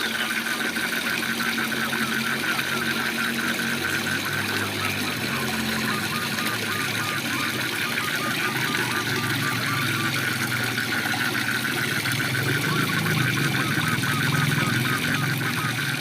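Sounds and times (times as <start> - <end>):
frogs calling: 0.0 - 16.0
low pulsing croak: 0.0 - 16.0
waterfall rushing: 0.8 - 16.0.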